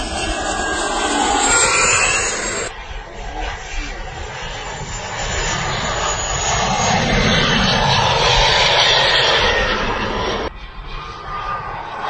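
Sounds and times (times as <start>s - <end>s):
model jet roar: 0.0s - 12.0s.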